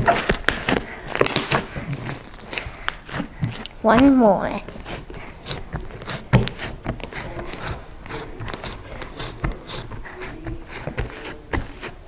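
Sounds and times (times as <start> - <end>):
hand slapping slime: 0.0 - 12.0
slime squishing: 0.0 - 12.0.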